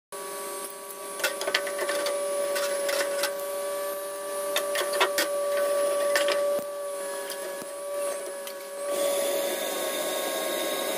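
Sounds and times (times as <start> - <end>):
air blower whine: 0.2 - 10.9.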